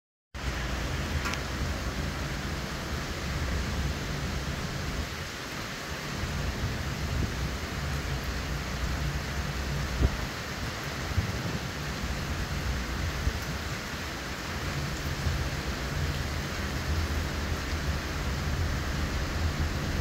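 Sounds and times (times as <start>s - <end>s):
heavy rain: 0.4s - 20.0s
hurricane wind: 0.4s - 20.0s.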